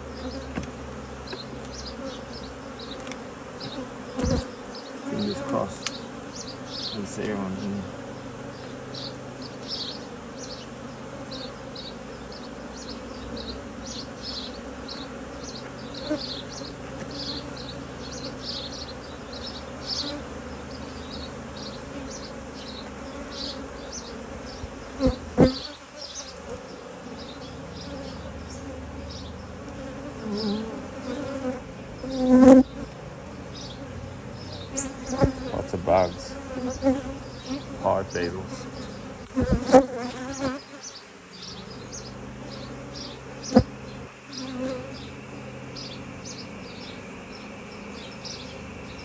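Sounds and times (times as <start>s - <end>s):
bees buzzing: 0.0s - 49.0s.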